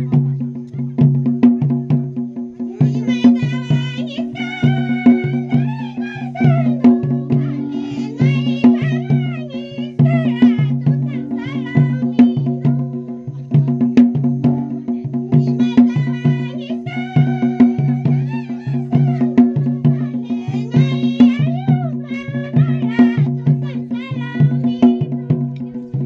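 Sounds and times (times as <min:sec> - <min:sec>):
steady percussion beat: 0:00.0 - 0:26.0
women singing folk song: 0:02.7 - 0:26.0.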